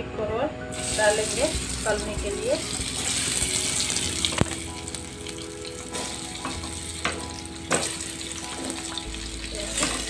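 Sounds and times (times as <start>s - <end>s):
hot oil sizzling: 0.7s - 10.0s.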